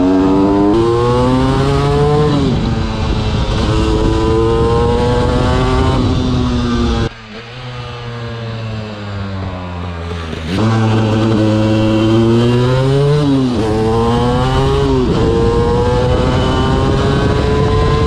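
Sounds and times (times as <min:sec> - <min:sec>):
two-stroke engine accelerating: 0:00.0 - 0:18.0.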